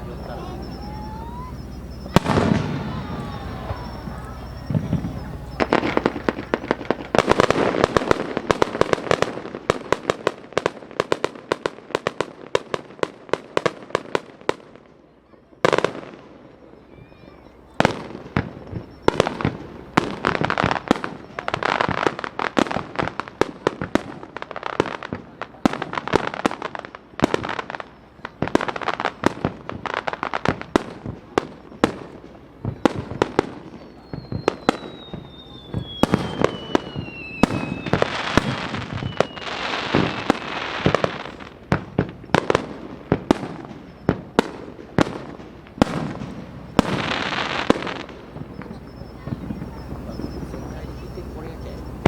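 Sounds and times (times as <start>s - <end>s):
falling firework whistle: 0.0s - 52.0s
firework bursts and bangs: 0.0s - 52.0s
firework crackling: 0.0s - 52.0s.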